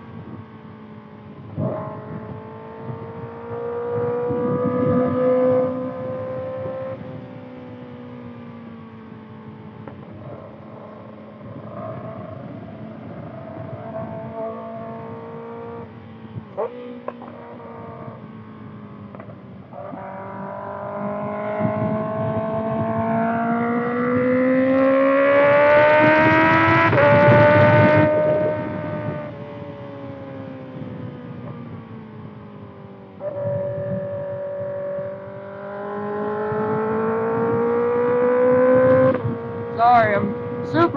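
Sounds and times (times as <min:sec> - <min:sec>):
motorcycle engine revving: 0:01.4 - 0:40.9.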